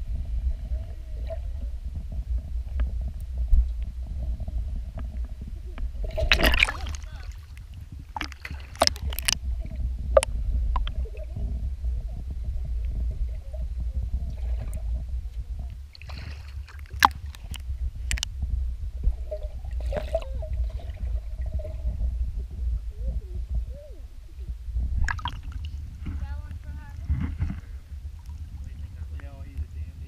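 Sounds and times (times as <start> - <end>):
muffled underwater rumble: 0.0 - 30.0.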